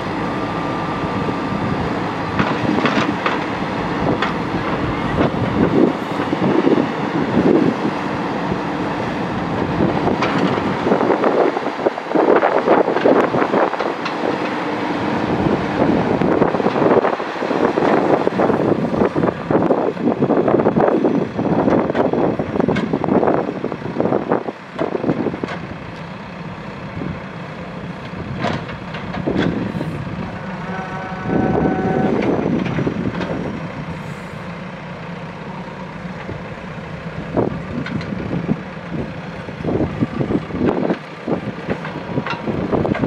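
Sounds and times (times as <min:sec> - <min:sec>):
diesel engine under load: 0:00.0 - 0:43.0.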